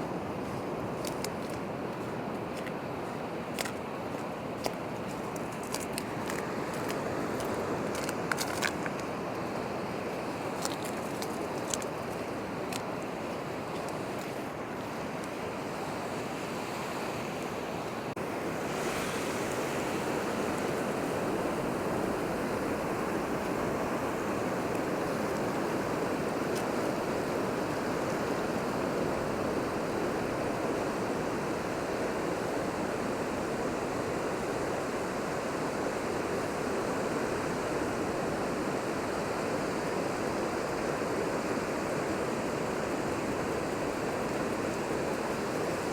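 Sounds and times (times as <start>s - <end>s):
sea surf breaking on a beach: 0.0s - 45.9s.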